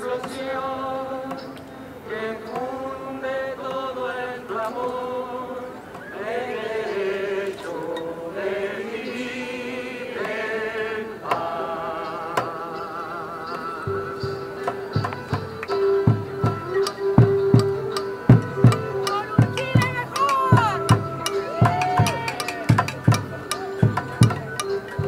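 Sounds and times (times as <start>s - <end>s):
voices singing slow melody: 0.0s - 25.0s.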